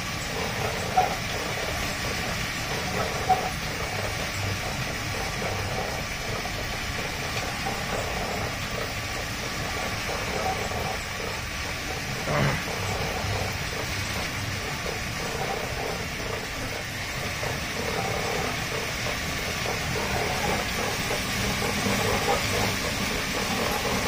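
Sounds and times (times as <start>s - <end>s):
dog treadmill rolling rumble: 0.0s - 24.0s.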